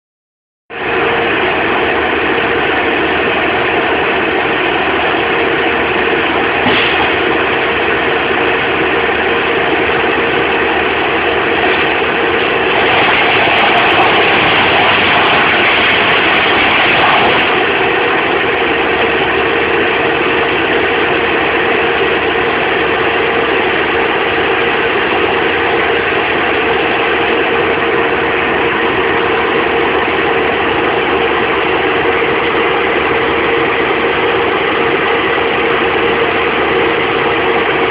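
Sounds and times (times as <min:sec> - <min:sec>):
engine running steadily: 0:00.7 - 0:37.9.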